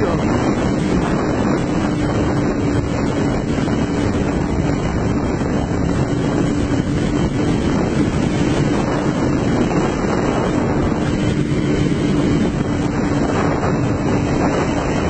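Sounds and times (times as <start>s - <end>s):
steady engine tone: 0.0s - 15.0s
wind rushing over microphone: 0.0s - 15.0s.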